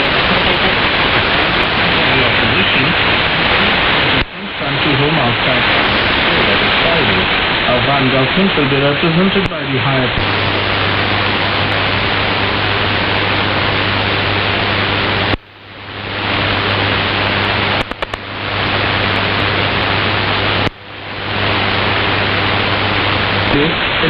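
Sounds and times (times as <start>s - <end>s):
low hum: 0.0s - 24.0s
radio static hiss: 0.0s - 24.0s
static clicks: 0.0s - 24.0s.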